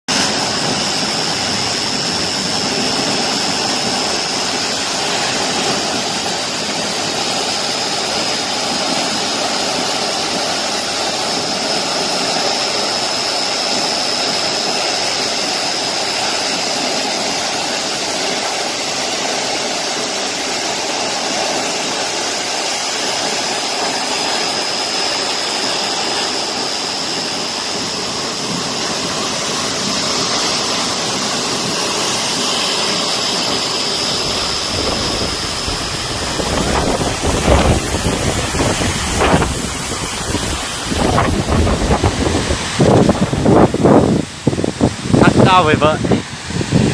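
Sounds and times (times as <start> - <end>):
waterfall rushing: 0.1 - 46.9.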